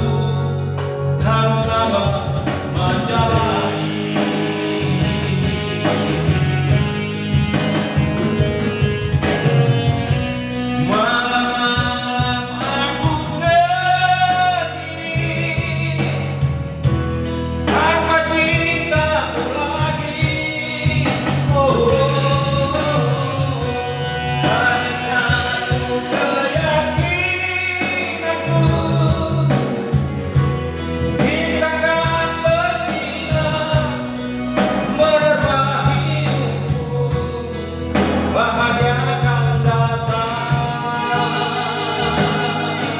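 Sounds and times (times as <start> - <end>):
person singing: 0.0 - 8.5, 9.2 - 16.7, 17.7 - 42.9
band accompaniment: 0.0 - 42.9
steady bass line: 0.0 - 42.9.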